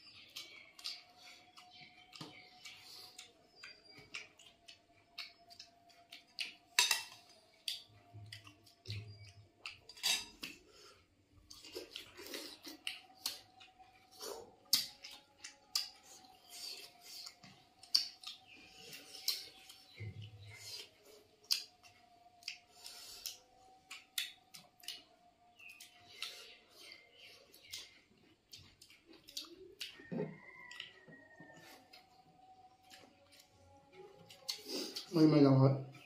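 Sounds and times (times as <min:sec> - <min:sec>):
wet chewing smacks: 0:00.1 - 0:35.1.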